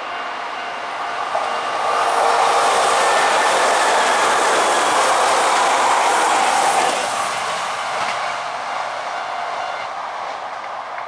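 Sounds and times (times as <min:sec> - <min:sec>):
electric train passing: 0:00.0 - 0:11.0.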